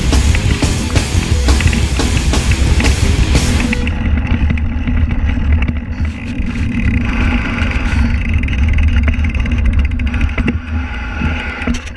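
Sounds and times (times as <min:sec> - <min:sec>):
bike rattling over dirt trail: 0:00.0 - 0:11.9.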